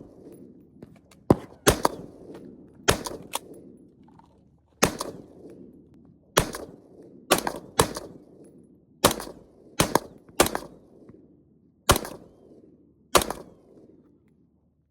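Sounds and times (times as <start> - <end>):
rifle shots with echo: 0.0 - 3.9, 4.8 - 11.2, 11.9 - 14.0.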